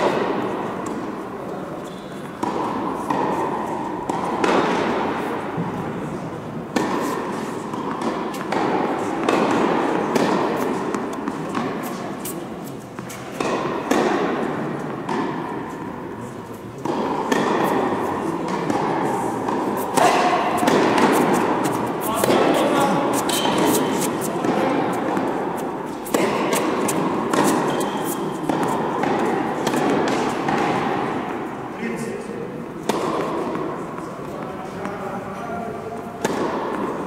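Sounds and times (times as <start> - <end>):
tennis ball struck by rackets: 0.0 - 1.2, 1.9 - 6.0, 6.6 - 16.2, 16.8 - 31.6, 32.7 - 34.9, 36.1 - 37.0
tennis ball bouncing on court: 0.0 - 1.3, 1.9 - 31.6, 32.7 - 35.0, 36.0 - 37.0.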